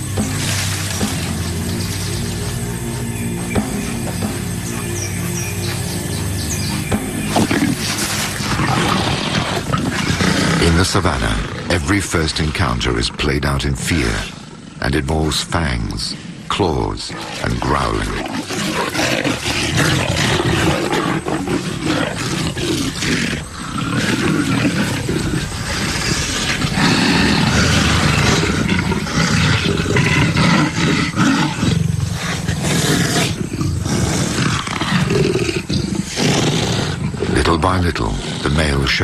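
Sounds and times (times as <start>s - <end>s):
leopards growling and snarling: 0.0s - 39.0s.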